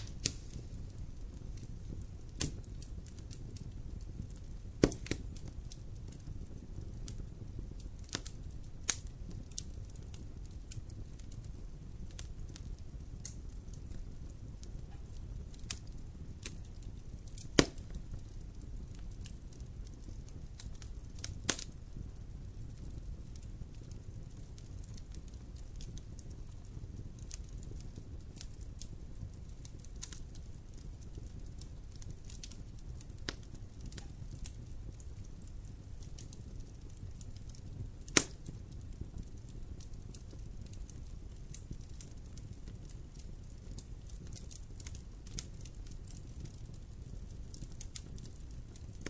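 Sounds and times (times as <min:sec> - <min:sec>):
fire popping: 0:00.0 - 0:49.0
wood fire crackling: 0:00.0 - 0:49.0.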